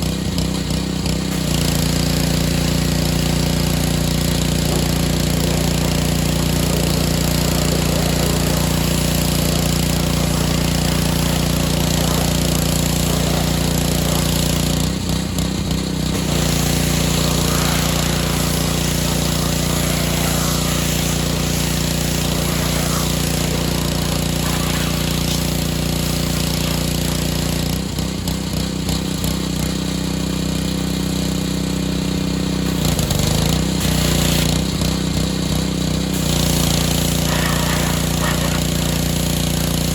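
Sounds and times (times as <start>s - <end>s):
pressure washer engine hum: 0.0s - 39.9s
water spray hissing: 1.2s - 15.3s, 15.9s - 28.1s, 32.6s - 34.8s, 36.0s - 39.9s.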